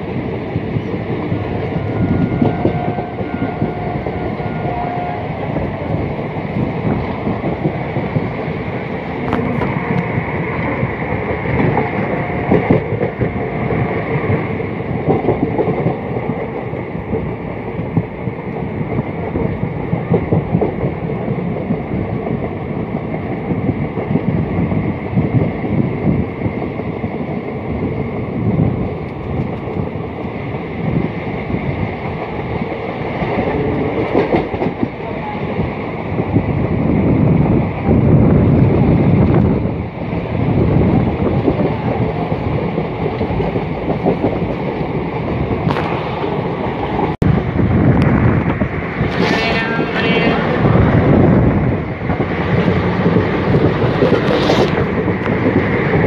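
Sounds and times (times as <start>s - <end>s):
train rumbling: 0.0s - 56.0s
wheels clattering on rails: 0.0s - 56.0s.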